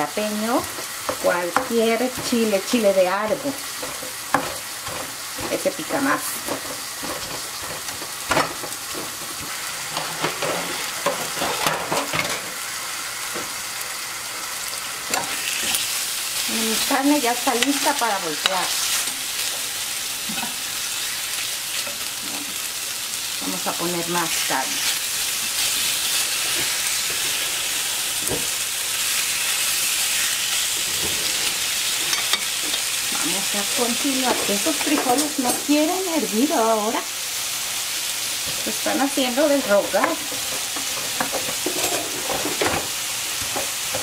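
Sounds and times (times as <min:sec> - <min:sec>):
meat sizzling in oil: 0:00.0 - 0:44.0.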